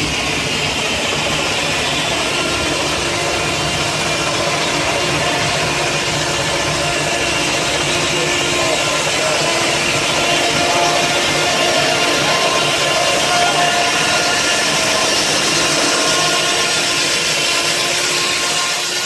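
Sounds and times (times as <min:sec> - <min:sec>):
saw blade cutting log: 0:00.0 - 0:19.0.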